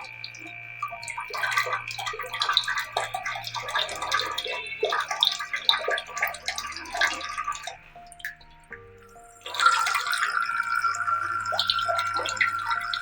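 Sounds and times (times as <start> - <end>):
tap water splashing into basin: 0.0 - 13.0.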